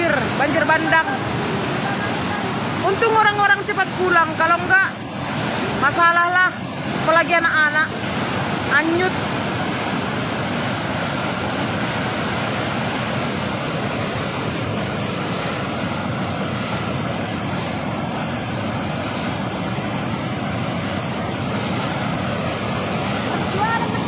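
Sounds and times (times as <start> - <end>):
water rushing over a weir: 0.0 - 24.0.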